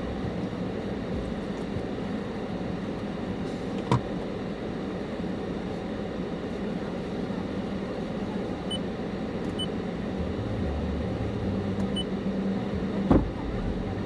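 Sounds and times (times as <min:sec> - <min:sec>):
car road and engine hum: 0:00.0 - 0:14.0.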